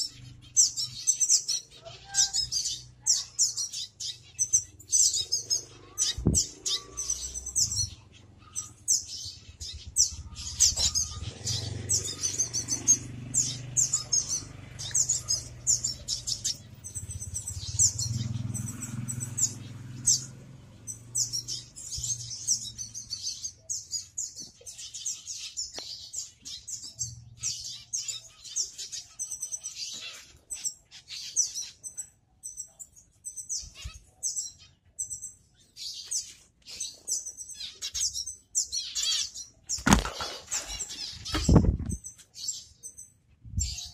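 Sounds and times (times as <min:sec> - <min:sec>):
finches chirping: 0:00.0 - 0:43.9.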